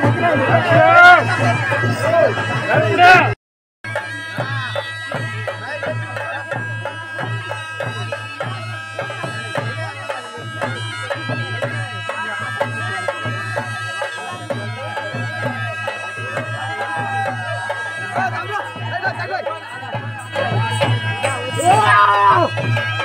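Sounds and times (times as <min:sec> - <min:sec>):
drum beating: 0:00.0 - 0:23.0
wind instrument melody over drone: 0:00.0 - 0:23.0.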